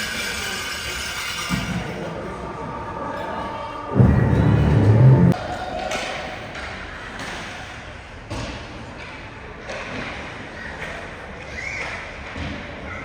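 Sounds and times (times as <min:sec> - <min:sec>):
crowd and rink hubbub: 0:00.0 - 0:13.0.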